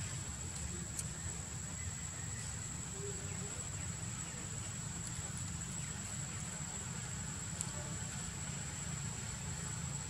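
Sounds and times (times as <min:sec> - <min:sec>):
high insect whine: 0:00.0 - 0:10.0
low outdoor rumble: 0:00.0 - 0:10.0.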